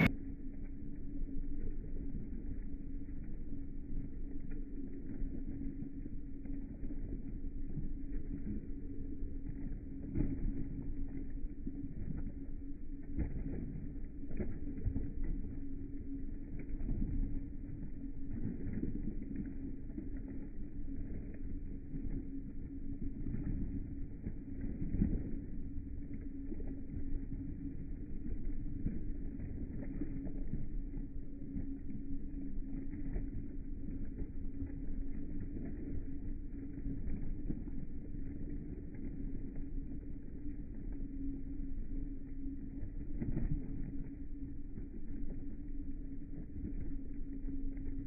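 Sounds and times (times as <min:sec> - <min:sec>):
washing machine running: 0:00.0 - 0:48.0.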